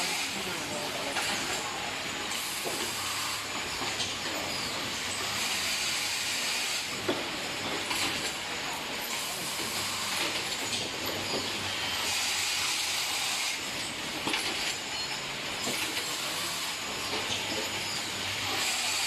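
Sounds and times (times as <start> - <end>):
machine hissing and rattling: 0.0 - 19.0.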